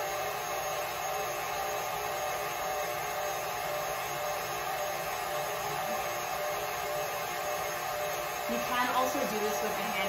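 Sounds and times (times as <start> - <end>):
stand mixer motor running: 0.0 - 10.0.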